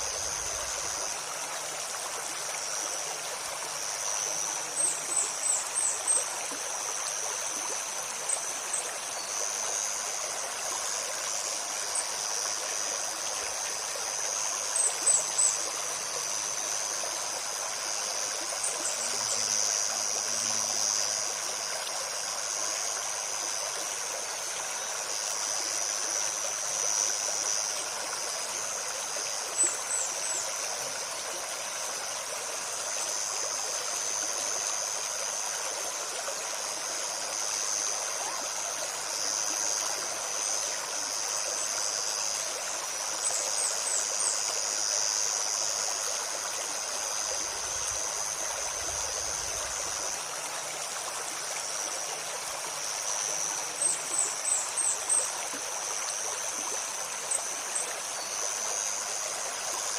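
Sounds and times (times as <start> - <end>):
high insect drone: 0.0 - 59.9
stream babbling over stones: 0.0 - 59.9.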